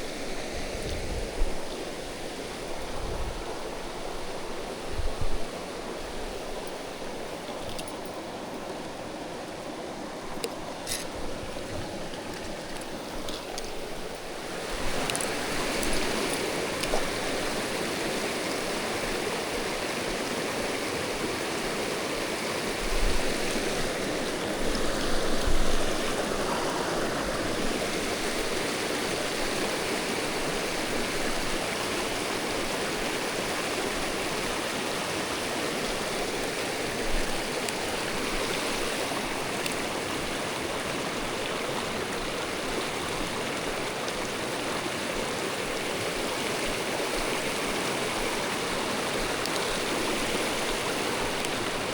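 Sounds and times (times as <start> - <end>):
stream flowing over rocks: 0.0 - 51.9.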